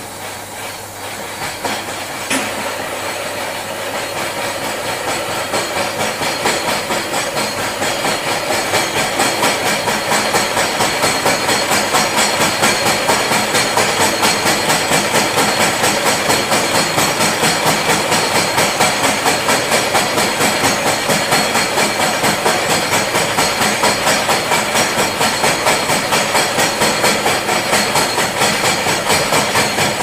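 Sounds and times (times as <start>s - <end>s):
milling machine cutting metal: 0.0s - 30.0s.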